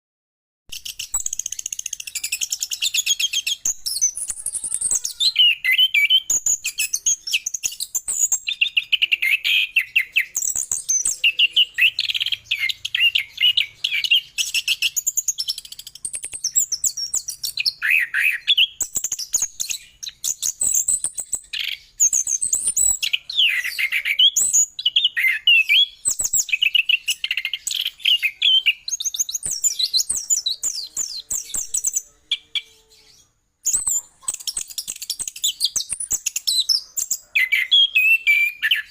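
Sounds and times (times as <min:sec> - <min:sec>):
thrush singing chirps and trills: 0:00.7 - 0:38.9.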